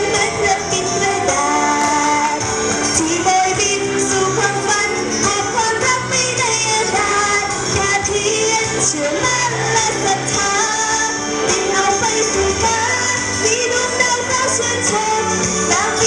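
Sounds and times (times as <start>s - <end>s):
person singing pop ballad: 0.0s - 16.0s
pop backing track: 0.0s - 16.0s.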